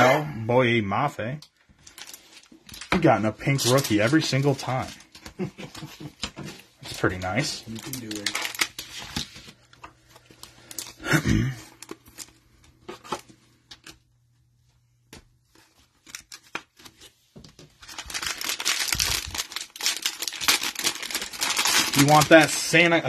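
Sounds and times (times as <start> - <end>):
plastic wrapper crinkling and tearing: 1.3 - 5.9, 6.8 - 13.2, 15.5 - 23.0.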